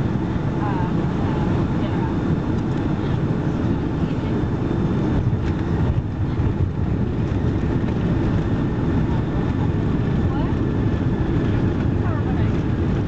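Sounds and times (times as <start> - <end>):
aircraft cabin roar: 0.0 - 13.0.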